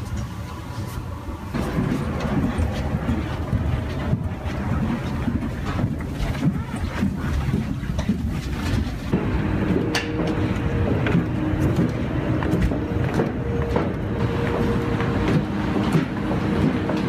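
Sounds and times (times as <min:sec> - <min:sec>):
droning hum: 0:00.0 - 0:17.0
faint footsteps: 0:00.0 - 0:17.0
low machinery rumble: 0:00.0 - 0:17.0.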